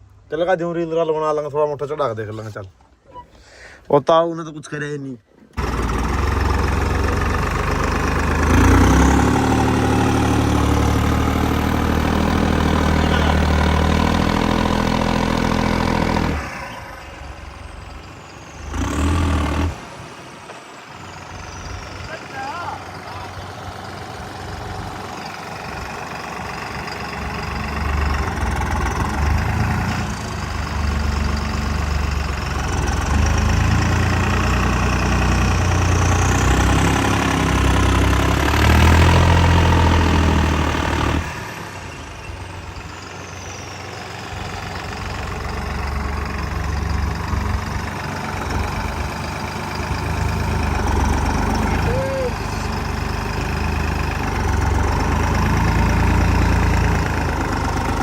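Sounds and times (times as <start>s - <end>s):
tractor diesel engine under load: 3.4s - 58.0s.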